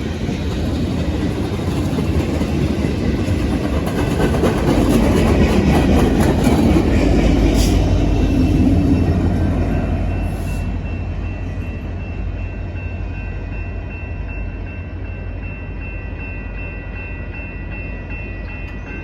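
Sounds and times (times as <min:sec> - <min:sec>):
train rumbling past on tracks: 0:00.0 - 0:19.0.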